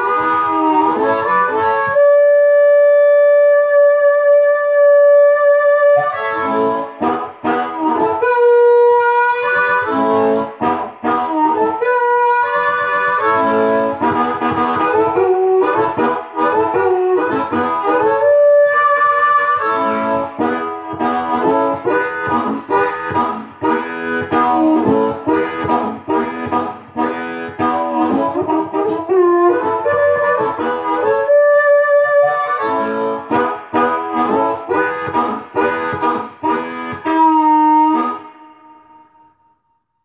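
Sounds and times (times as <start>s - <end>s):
amplified harmonica chords: 0.0s - 39.6s.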